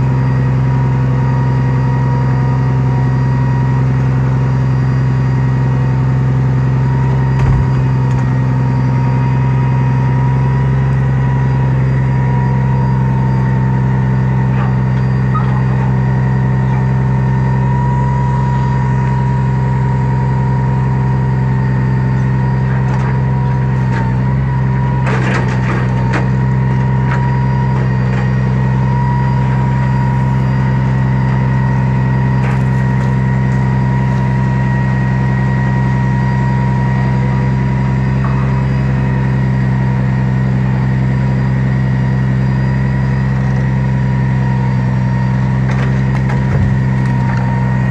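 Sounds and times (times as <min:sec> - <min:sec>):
diesel engine idling: 0:00.0 - 0:47.9
steady whine: 0:00.0 - 0:47.9.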